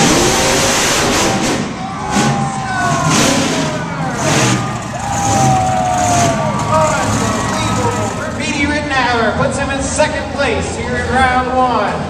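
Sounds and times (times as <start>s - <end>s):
monster truck engine revving: 0.0s - 11.5s.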